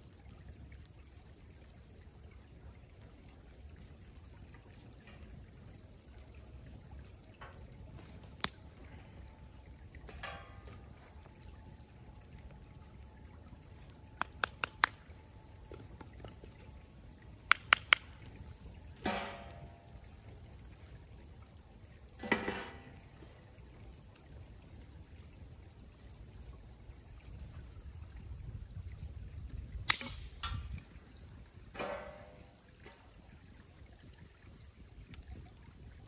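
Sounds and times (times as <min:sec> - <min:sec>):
creek water trickling: 0:00.0 - 0:36.0.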